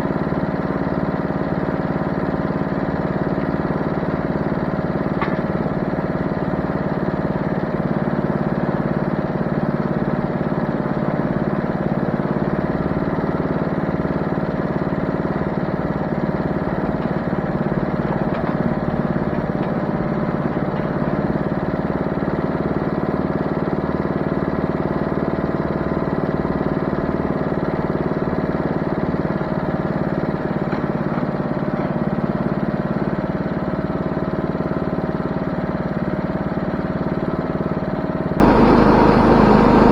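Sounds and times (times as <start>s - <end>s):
engine running steadily: 0.0s - 32.0s, 37.3s - 39.9s.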